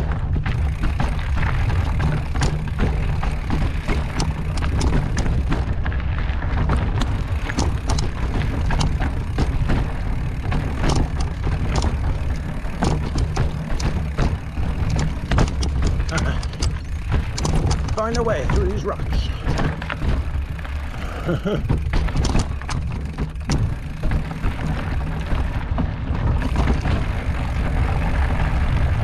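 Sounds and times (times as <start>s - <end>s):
bike rattling on rocks: 0.0s - 29.0s
wind rumble on microphone: 0.0s - 29.0s.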